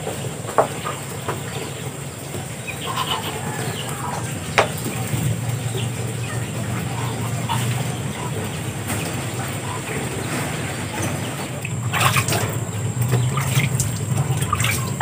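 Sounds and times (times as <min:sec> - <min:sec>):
poultry clucking: 0:00.0 - 0:15.0
steady low hum: 0:00.0 - 0:15.0.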